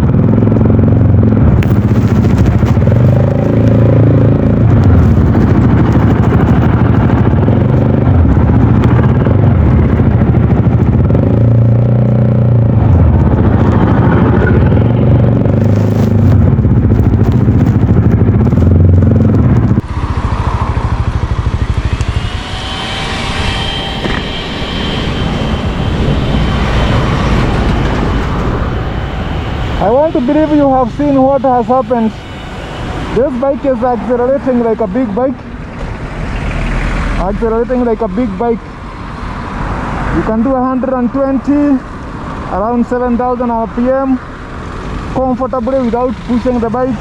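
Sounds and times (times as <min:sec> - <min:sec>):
motorcycle engine accelerating: 0:00.0 - 0:41.2
faint rising whine: 0:00.0 - 0:47.0
wind rushing on microphone: 0:00.0 - 0:47.0.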